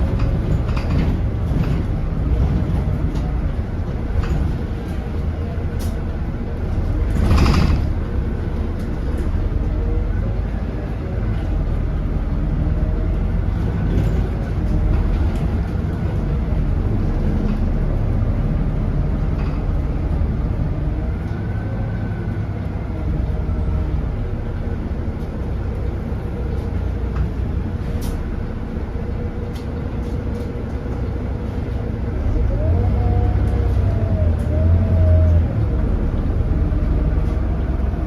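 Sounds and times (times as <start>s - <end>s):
bus diesel engine rumbling: 0.0s - 38.0s.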